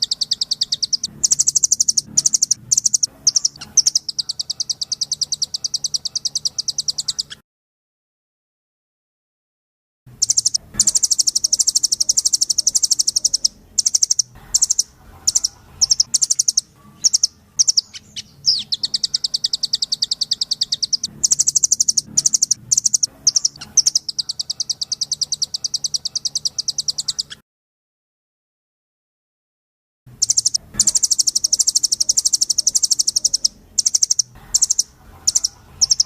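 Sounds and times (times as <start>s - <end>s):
nuthatch singing rapid trill: 0.0s - 7.4s, 10.1s - 27.4s, 30.1s - 36.0s.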